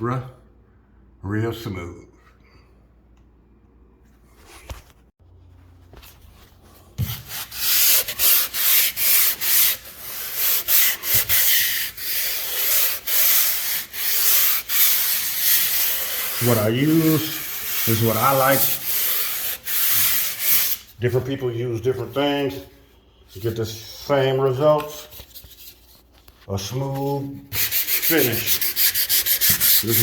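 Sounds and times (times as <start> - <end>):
sanding drywall compound: 5.7 - 30.0.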